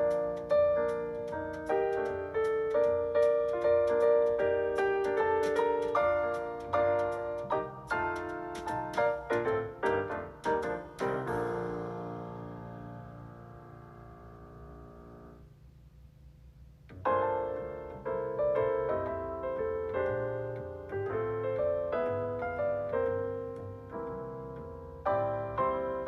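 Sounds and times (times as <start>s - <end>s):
piano chords: 0.0s - 15.6s, 16.8s - 26.0s.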